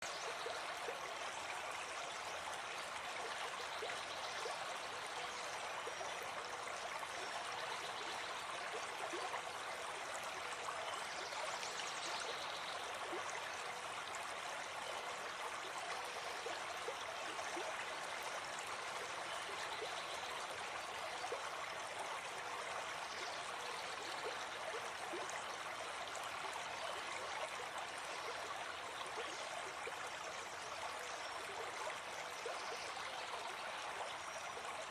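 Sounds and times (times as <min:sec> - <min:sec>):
stream flowing water: 0:00.0 - 0:34.9.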